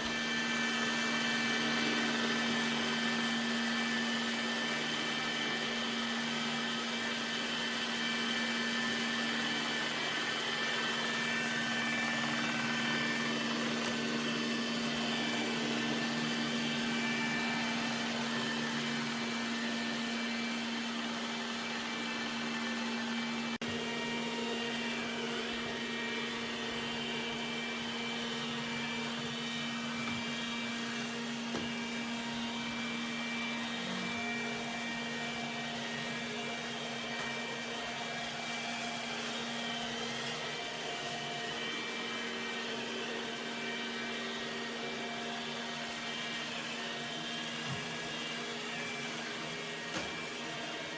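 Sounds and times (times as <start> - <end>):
robot vacuum running: 0.0 - 50.9.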